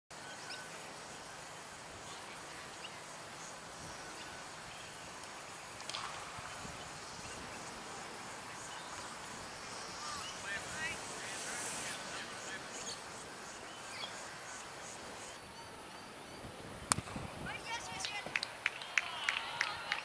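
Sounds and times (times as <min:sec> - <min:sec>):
faint open-air background: 0:00.1 - 0:20.0
high-pitched insect chorus: 0:00.2 - 0:20.0.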